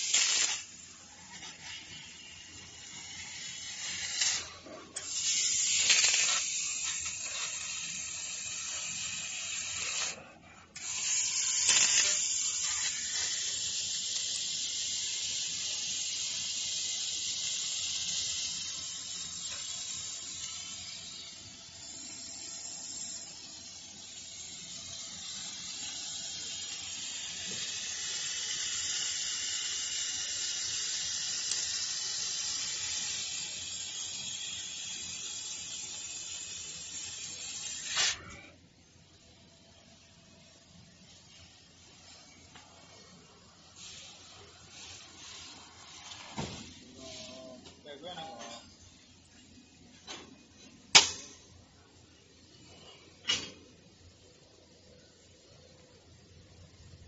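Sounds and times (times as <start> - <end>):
laser cutter gas hiss: 0.0 - 57.0.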